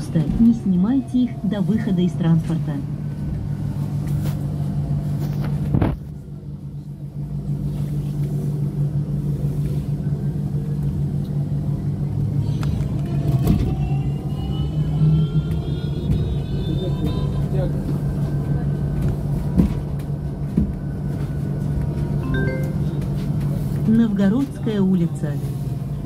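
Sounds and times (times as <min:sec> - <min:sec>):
bus interior low hum: 0:00.0 - 0:26.0.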